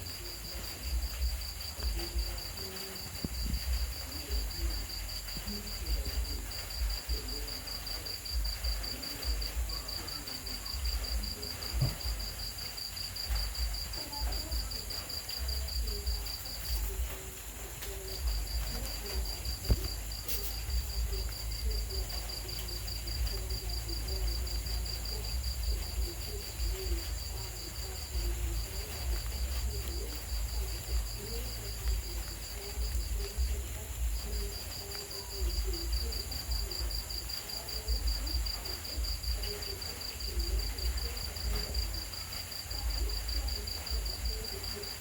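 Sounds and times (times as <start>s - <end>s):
crickets trilling: 0.0s - 45.0s.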